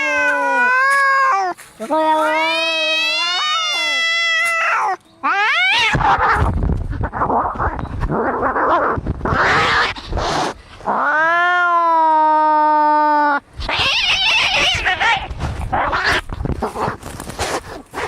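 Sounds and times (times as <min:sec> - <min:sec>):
cats yowling in a fight: 0:00.0 - 0:17.1.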